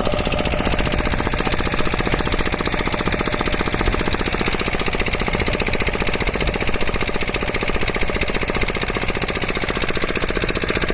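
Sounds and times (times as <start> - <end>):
loud machine pounding: 0.0 - 10.9.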